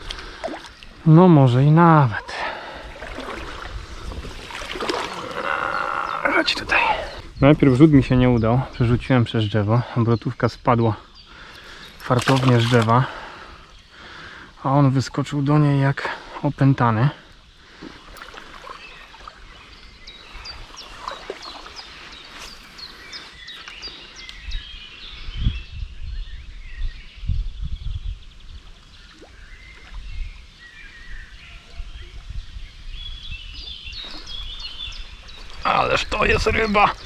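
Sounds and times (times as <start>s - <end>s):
songbirds chirping and singing: 0.0s - 37.0s.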